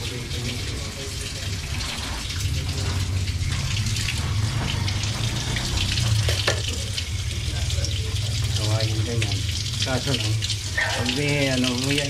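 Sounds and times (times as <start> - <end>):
tap water splashing into sink: 0.0 - 12.0.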